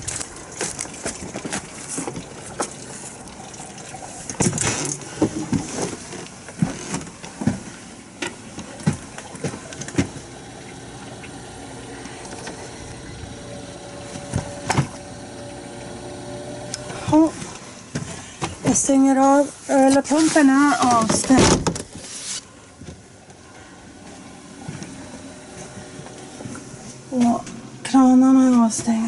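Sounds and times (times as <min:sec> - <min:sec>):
water pump running: 0:00.0 - 0:22.0, 0:23.0 - 0:29.0
water flowing through pipes: 0:00.0 - 0:29.0.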